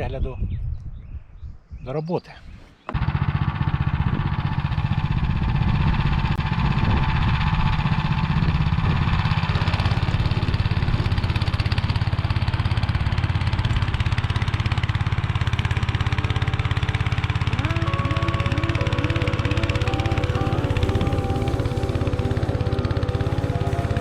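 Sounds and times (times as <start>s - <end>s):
tiller engine running: 2.9s - 24.0s.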